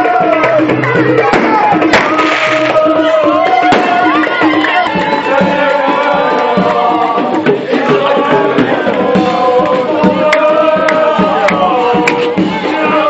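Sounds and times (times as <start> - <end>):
hand drum beat: 0.0 - 13.0.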